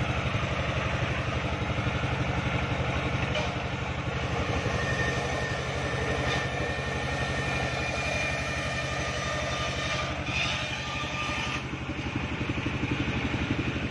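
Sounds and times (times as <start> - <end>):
sawmill engine chugging: 0.0 - 13.9.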